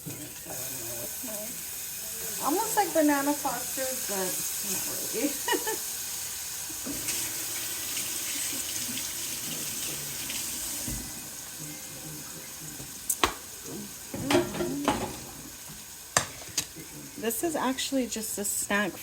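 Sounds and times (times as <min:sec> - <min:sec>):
banana frying in butter: 0:00.0 - 0:19.0.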